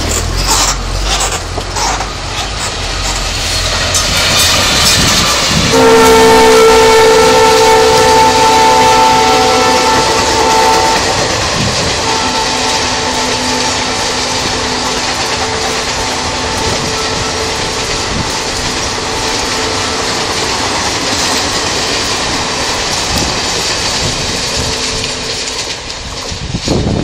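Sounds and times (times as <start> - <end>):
train coaches rushing past: 0.0 - 27.0.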